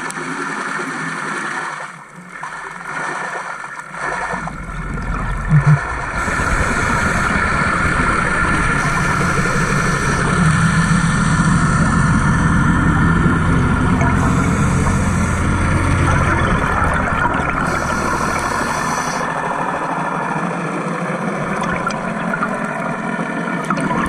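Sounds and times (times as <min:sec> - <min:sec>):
underwater rumbling wash: 0:02.3 - 0:24.0.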